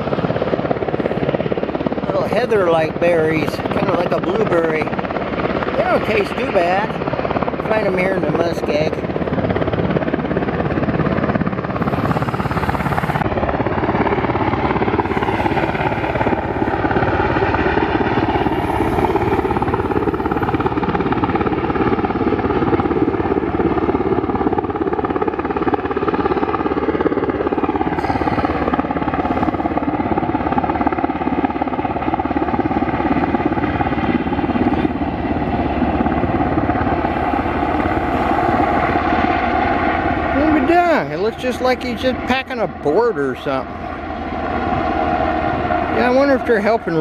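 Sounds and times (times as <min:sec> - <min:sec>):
helicopter rotor and engine: 0:00.0 - 0:47.0.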